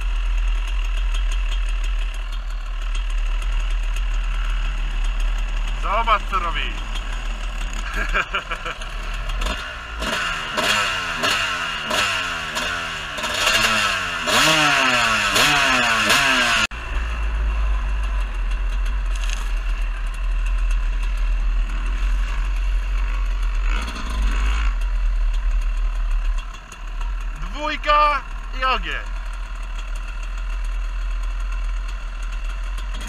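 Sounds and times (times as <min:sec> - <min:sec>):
dirt bike riding: 0:00.0 - 0:33.0
motorcycle engine revving: 0:00.0 - 0:33.0.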